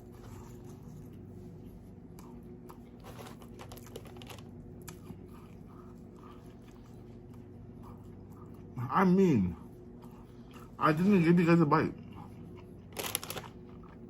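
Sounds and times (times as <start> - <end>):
person chewing food: 0.0 - 11.0, 11.9 - 14.0
steady low hum: 0.0 - 14.0.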